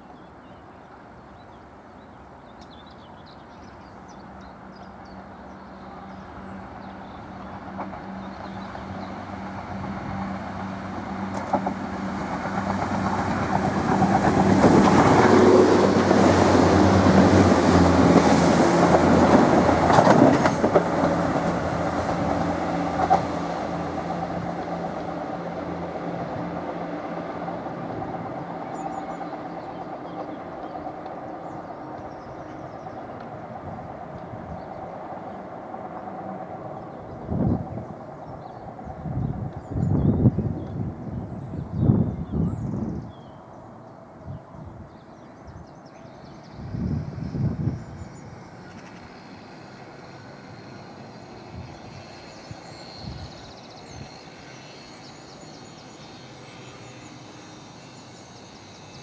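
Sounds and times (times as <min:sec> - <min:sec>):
outdoor background noise: 0:00.0 - 0:59.0
train diesel engines droning: 0:00.0 - 0:59.0.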